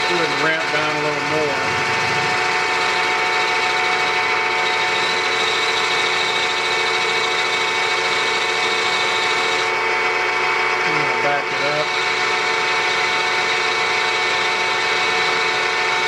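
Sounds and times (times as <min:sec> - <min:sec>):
machine spindle whine: 0:00.0 - 0:16.0
milling cutter cutting iron: 0:00.0 - 0:16.0.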